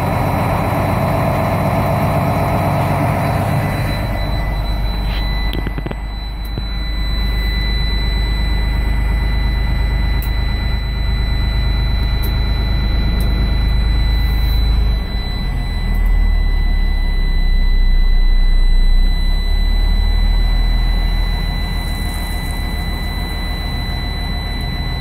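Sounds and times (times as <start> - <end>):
diesel bus engine running: 0.0 - 25.0
steady high whine: 0.0 - 25.0.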